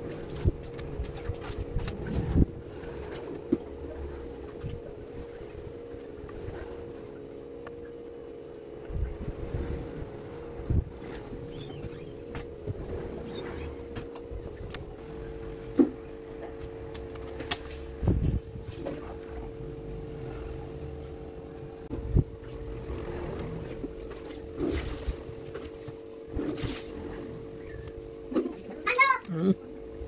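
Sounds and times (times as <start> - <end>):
steady hum with low rumble: 0.0 - 30.0.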